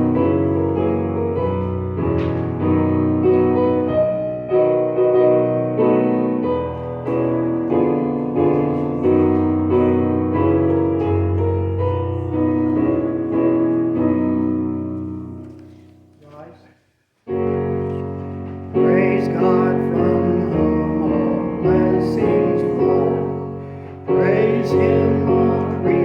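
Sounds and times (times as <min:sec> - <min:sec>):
piano playing slow chords: 0:00.0 - 0:16.4, 0:17.3 - 0:26.0.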